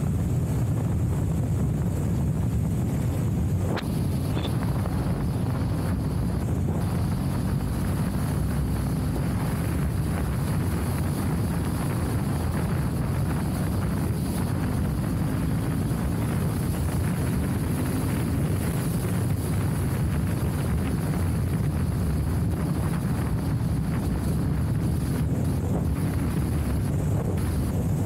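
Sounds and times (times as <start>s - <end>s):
vehicle rumbling on gravel road: 0.0s - 28.0s
wind noise: 0.0s - 28.0s.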